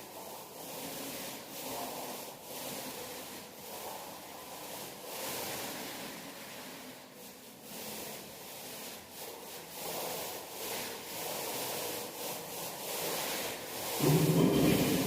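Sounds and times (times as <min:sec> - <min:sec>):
paint roller rubbing on wall: 0:00.0 - 0:15.0.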